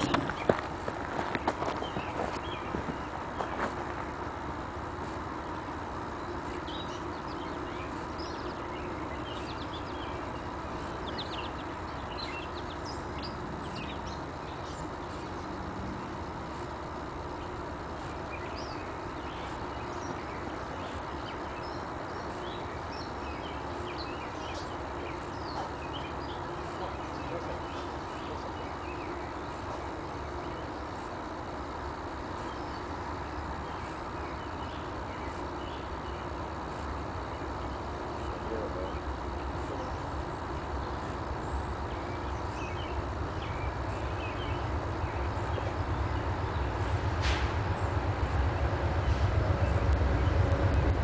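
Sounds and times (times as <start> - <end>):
outdoor background noise: 0.0 - 51.0
songbirds chirping: 0.0 - 51.0.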